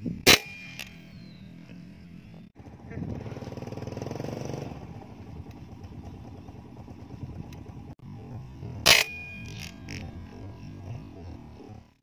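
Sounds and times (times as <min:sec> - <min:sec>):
motorcycle engine running: 0:01.1 - 0:12.0.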